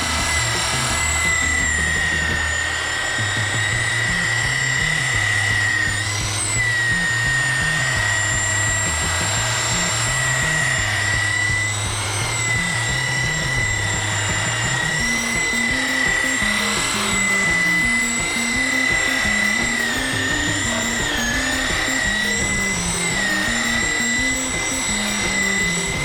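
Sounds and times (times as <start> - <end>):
background music with bass: 0.0 - 26.0
rotary polisher whining: 0.0 - 26.0.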